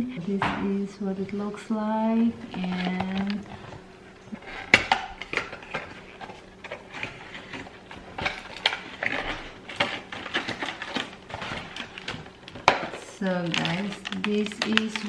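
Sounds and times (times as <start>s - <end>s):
packaging rustling: 2.4s - 15.0s.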